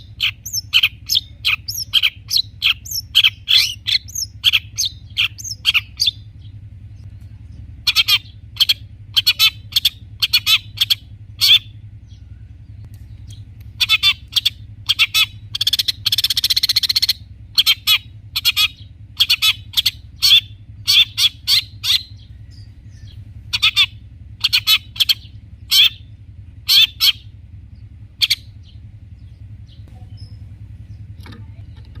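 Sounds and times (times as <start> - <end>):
bird chattering calls: 0.0 - 32.0.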